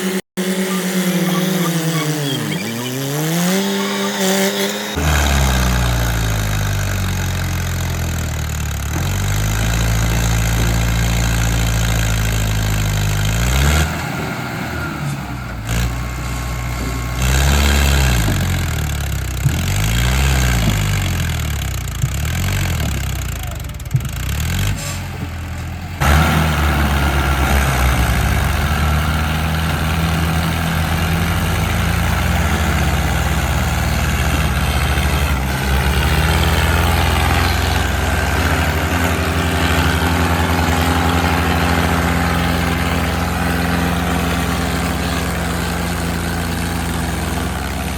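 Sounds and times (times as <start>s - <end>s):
tractor engine revving: 0.0s - 47.9s.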